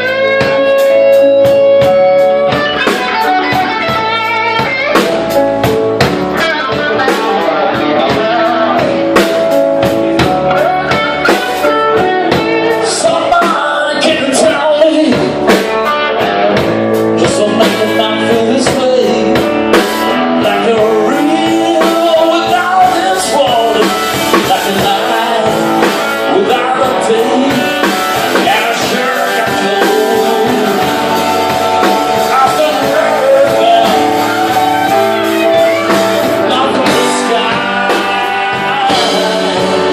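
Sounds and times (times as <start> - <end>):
drums steady beat: 0.0 - 39.9
electric guitar lead lines: 0.0 - 39.9.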